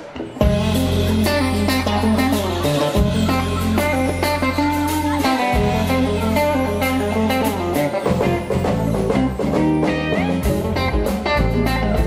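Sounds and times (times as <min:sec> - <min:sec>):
bass guitar: 0:00.0 - 0:12.0
drums: 0:00.0 - 0:12.0
electric guitar: 0:00.0 - 0:12.0.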